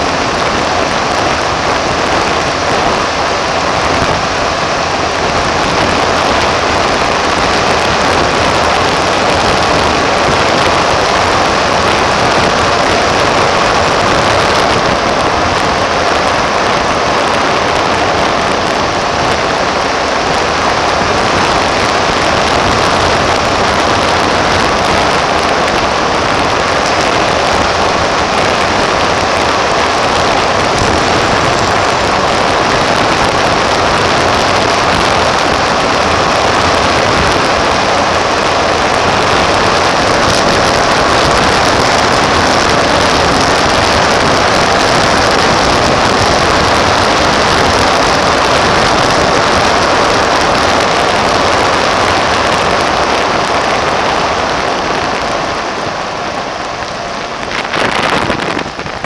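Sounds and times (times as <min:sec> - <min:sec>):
road noise: 0:00.0 - 0:59.0
wind rushing: 0:00.0 - 0:59.0.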